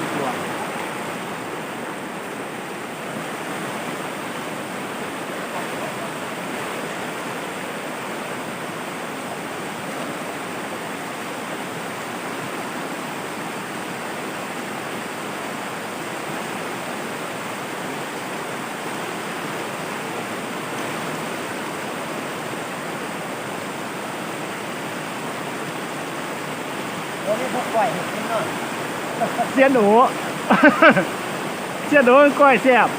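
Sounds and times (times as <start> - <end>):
river rapids rushing: 0.0 - 32.9.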